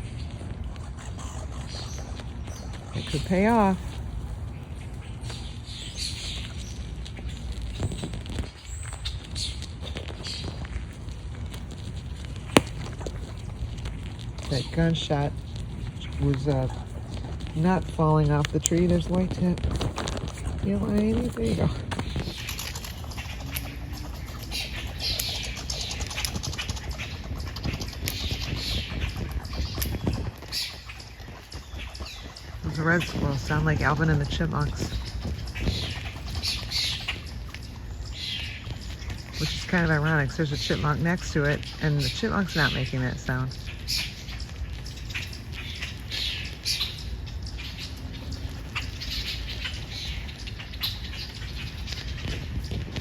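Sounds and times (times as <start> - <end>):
squirrels chattering: 0.0 - 53.0.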